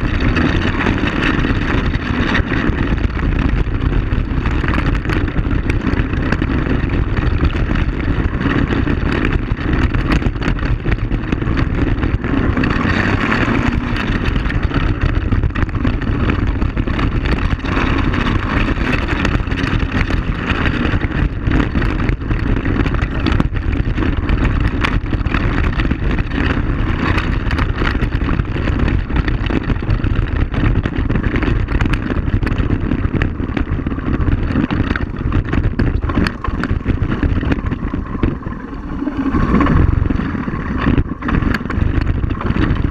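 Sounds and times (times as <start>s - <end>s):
atv engine running: 0.0s - 42.9s
rattles and knocks: 0.0s - 42.9s.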